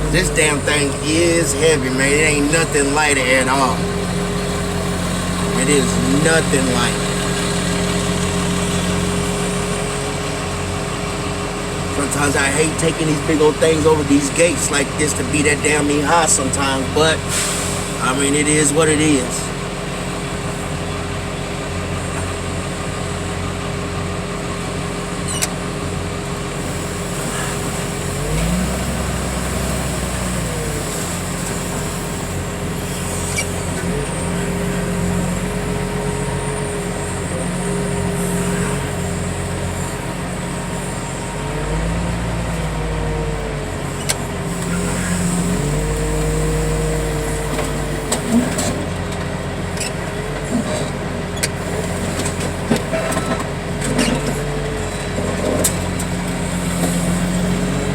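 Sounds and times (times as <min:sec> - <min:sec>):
loading machine engine revving: 0:00.0 - 0:20.7, 0:21.7 - 0:57.9.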